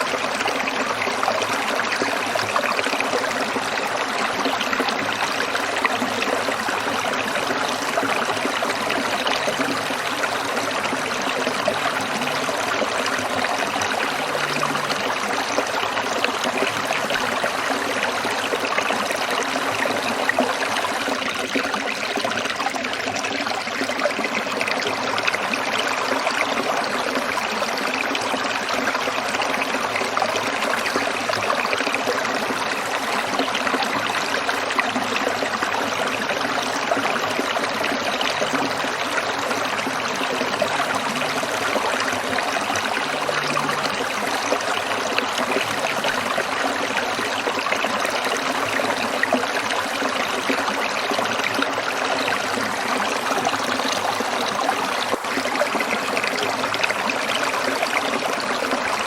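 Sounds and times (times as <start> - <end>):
stream water over rocks: 0.0 - 59.0.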